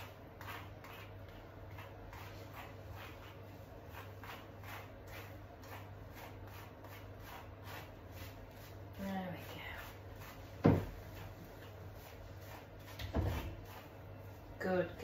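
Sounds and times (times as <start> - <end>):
brush rasping through wet fur: 0.0 - 15.0.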